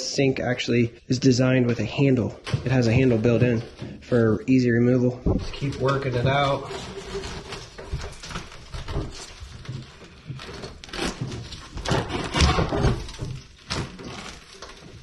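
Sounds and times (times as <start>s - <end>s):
sink scraping and creaking: 2.0s - 15.0s.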